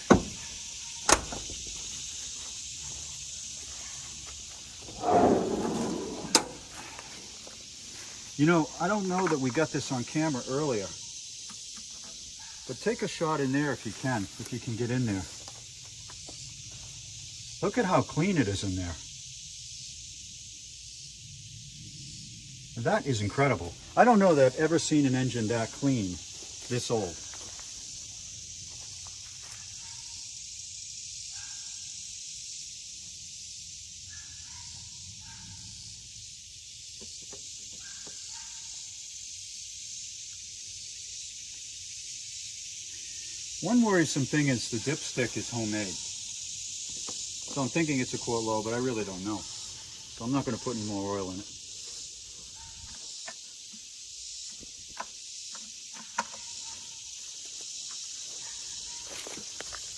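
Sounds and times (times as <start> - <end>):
high-pitched insect drone: 0.0 - 59.9.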